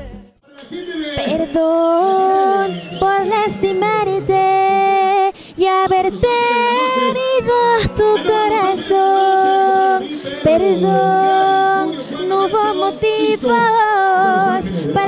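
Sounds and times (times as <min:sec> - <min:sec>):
woman singing into microphone: 0:01.2 - 0:15.0.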